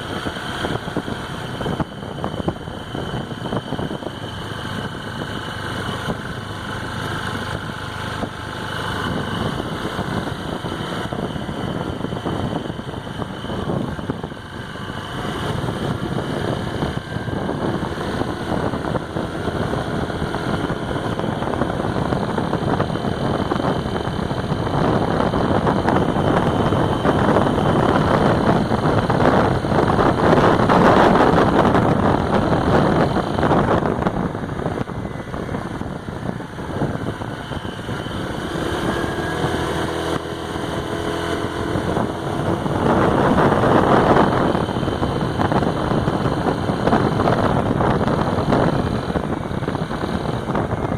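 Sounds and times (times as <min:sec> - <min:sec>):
scooter engine running: 0:00.0 - 0:50.9.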